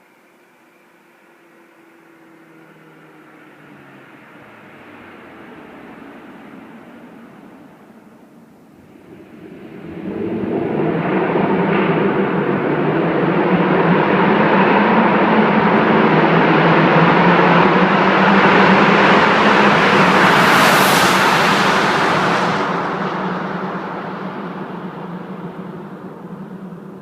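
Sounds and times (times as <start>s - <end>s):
loud car exhaust in tunnel: 0.0s - 27.0s.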